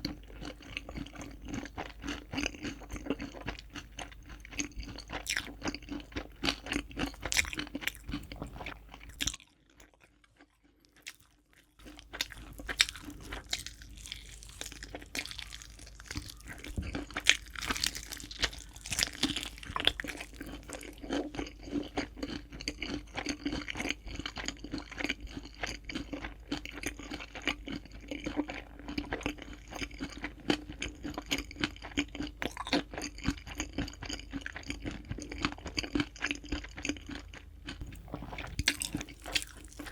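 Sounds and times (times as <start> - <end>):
chewing crispy food crunches: 0.0 - 39.9.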